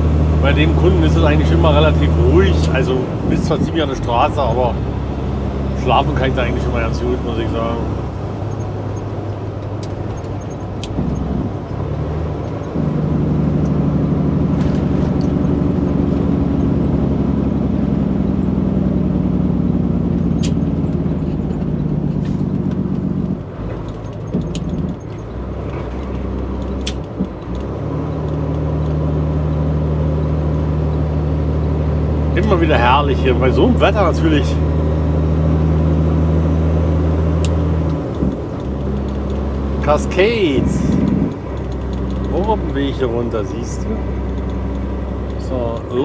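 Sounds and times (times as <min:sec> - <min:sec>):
diesel truck engine droning: 0:00.0 - 0:46.0.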